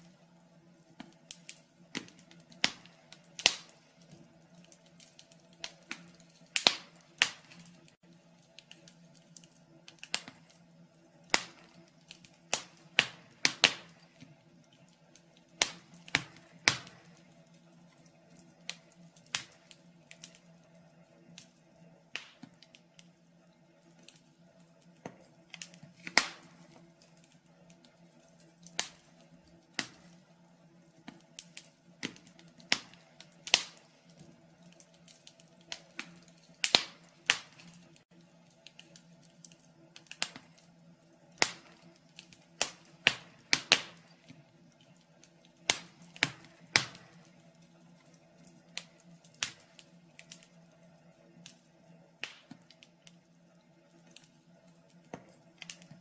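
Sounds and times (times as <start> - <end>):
faint steady hum: 0.0 - 56.0
wood fire crackling and popping: 0.0 - 56.0.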